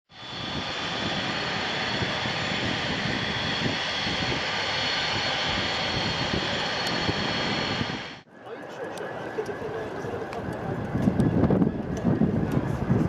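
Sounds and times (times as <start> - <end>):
jet engines running with whine: 0.1 - 13.0.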